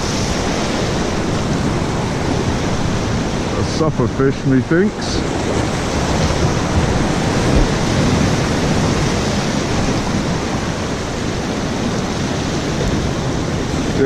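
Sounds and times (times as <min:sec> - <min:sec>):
surf rushing on shore: 0:00.0 - 0:14.0
wind on microphone: 0:00.0 - 0:14.0.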